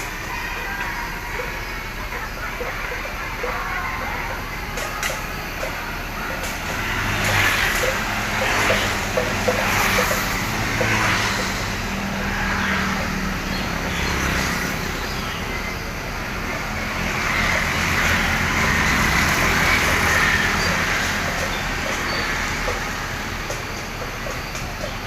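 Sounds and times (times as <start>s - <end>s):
traffic hiss: 0.0s - 25.0s
vehicle engines droning: 0.0s - 25.0s.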